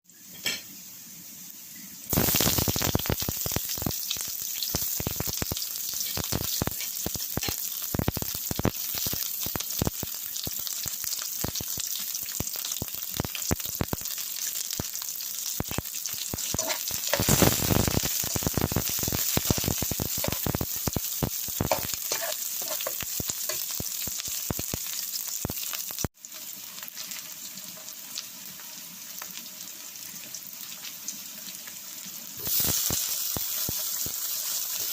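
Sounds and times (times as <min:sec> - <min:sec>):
food sizzling in hot oil: 0:00.1 - 0:34.9.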